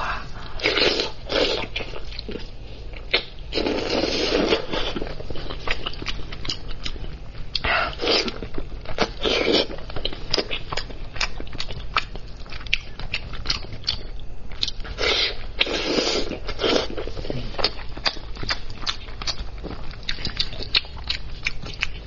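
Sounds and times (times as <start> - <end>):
person chewing and biting meat: 0.0 - 22.0.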